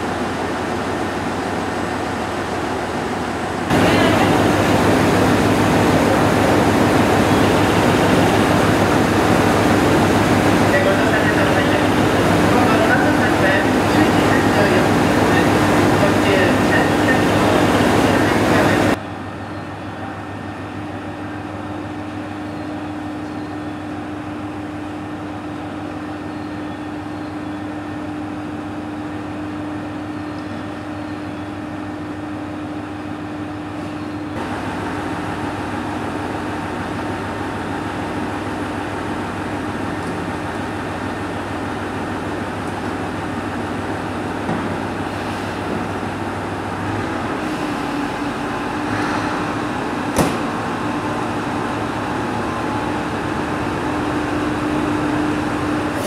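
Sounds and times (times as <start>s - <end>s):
diesel railcar idling hum: 0.0s - 56.0s.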